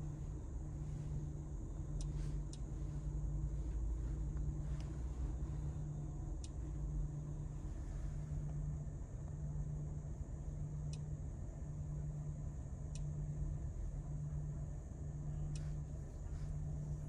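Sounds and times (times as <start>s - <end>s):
car cabin hum and rumble: 0.0s - 17.0s.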